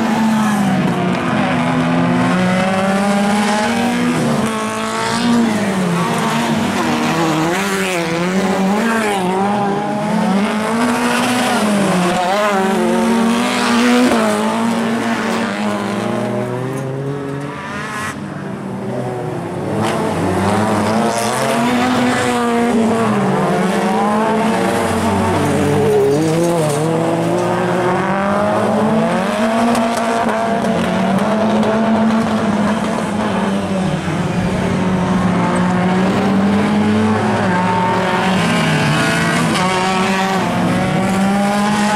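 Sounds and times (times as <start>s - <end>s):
racing car engines revving: 0.0s - 41.9s.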